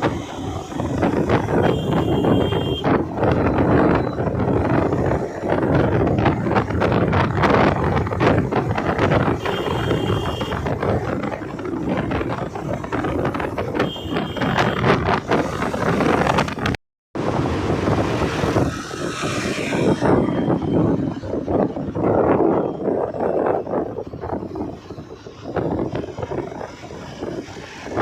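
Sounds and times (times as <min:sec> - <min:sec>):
motorcycle riding at speed: 0:00.0 - 0:28.0
wind buffeting microphone: 0:00.0 - 0:28.0.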